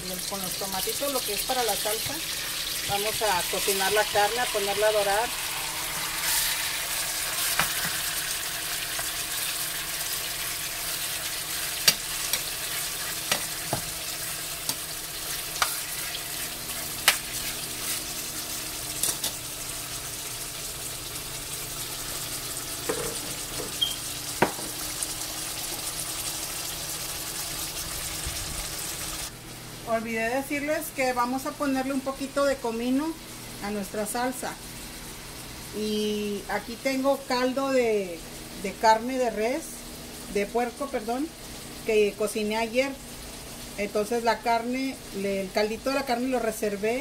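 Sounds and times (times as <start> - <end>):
meat sizzling in a pan: 0.0 - 29.7, 31.4 - 47.0.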